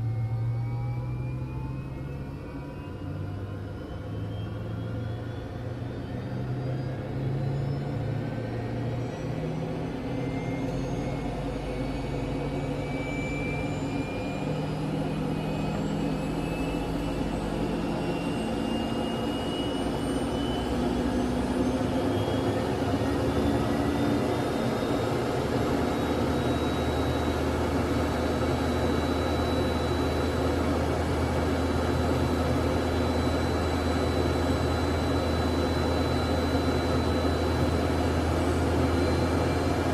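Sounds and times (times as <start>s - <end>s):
jet engine whine spooling up: 0.0s - 39.9s
steady engine rumble: 0.0s - 39.9s.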